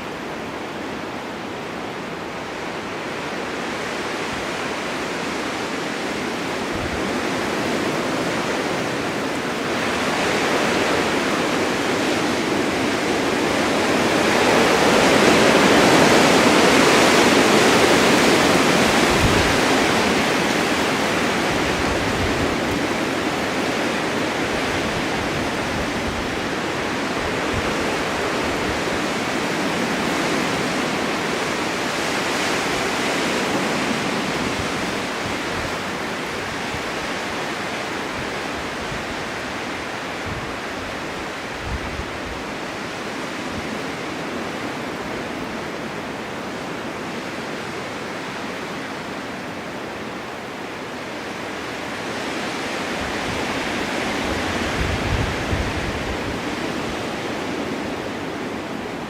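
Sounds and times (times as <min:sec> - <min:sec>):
blizzard wind: 0:00.0 - 0:59.0.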